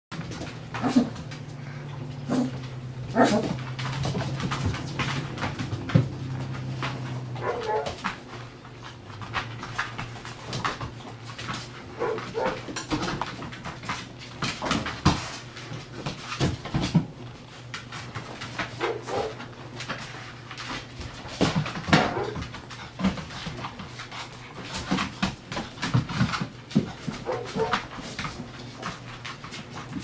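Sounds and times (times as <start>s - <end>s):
paws clicking and scuffling on tile: 0.1s - 30.0s.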